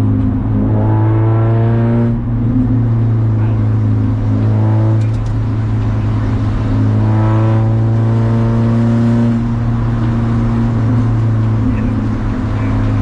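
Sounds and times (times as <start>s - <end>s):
constant low drone: 0.0s - 13.0s
race car engine under load: 0.0s - 13.0s.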